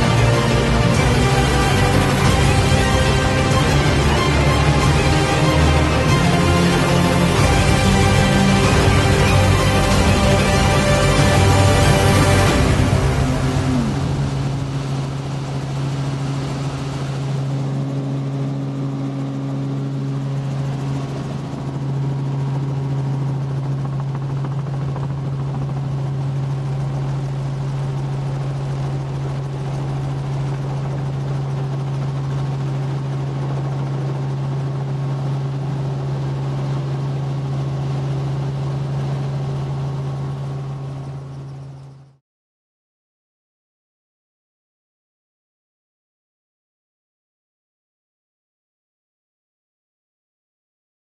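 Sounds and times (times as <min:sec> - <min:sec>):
helicopter rotor and engine drone: 0:00.0 - 0:42.2.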